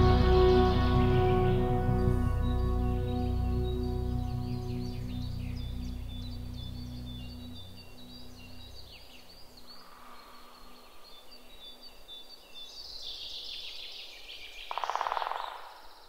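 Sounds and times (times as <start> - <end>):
small birds chirping: 2.3 - 16.0.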